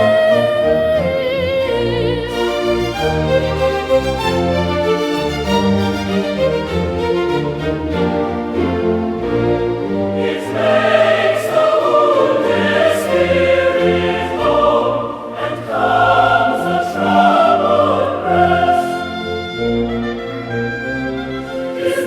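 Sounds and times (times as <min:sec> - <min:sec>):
choir singing a hymn: 0:00.0 - 0:22.0
instrumental accompaniment: 0:00.0 - 0:22.0.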